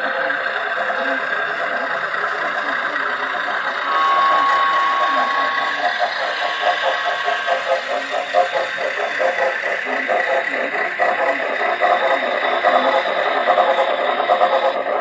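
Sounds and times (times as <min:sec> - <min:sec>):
model train wheels clattering: 0:00.0 - 0:03.9, 0:06.2 - 0:15.0.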